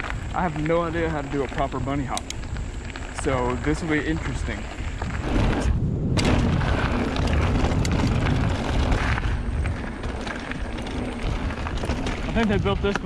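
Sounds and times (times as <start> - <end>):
bike clicks and rattles: 0.0 - 13.0
bike tyres rolling on dirt: 0.0 - 13.0
wind buffeting microphone: 0.0 - 13.0.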